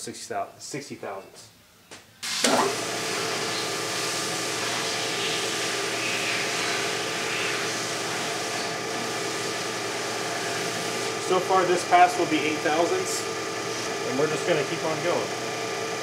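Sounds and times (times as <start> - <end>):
milling machine humming and whirring: 2.2 - 16.0.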